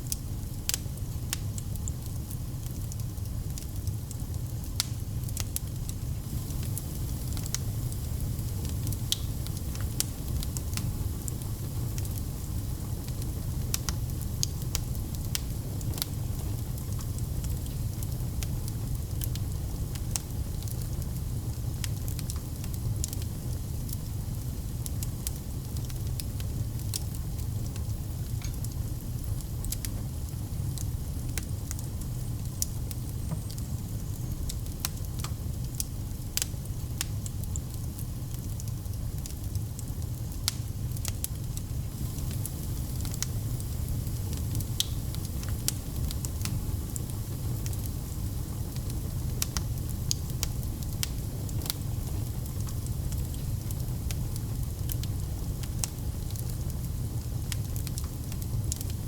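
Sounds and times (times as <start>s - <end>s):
fire crackling and popping: 0.0s - 59.0s
fire low rumble: 0.0s - 59.0s.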